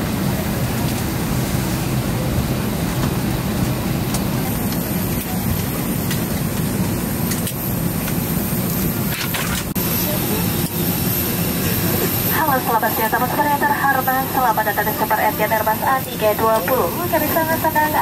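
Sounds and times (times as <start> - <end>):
aircraft cabin air rumble: 0.0 - 18.0.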